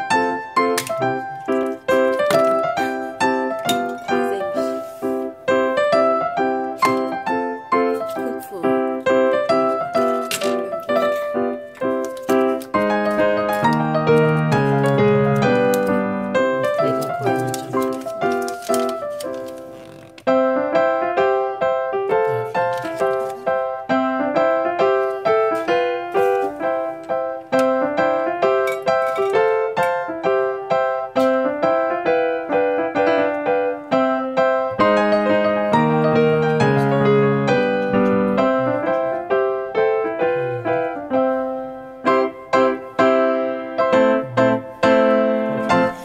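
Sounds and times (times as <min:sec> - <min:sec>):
bouncy piano tune: 0:00.0 - 0:46.0.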